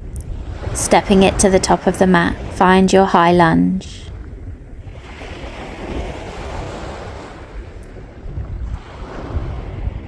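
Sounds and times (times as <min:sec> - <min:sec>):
waves washing onto beach: 0:00.0 - 0:10.0
wind buffeting microphone: 0:00.0 - 0:10.0.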